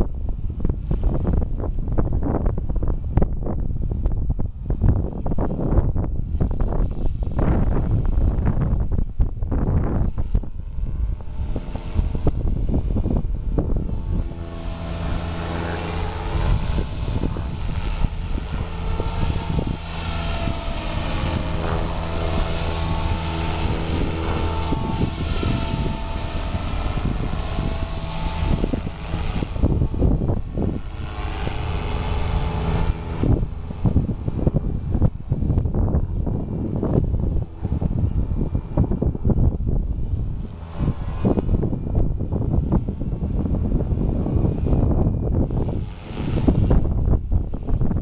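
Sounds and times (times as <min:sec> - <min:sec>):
model helicopter rotor whine: 0:00.0 - 0:48.0
wind buffeting microphone: 0:00.0 - 0:48.0.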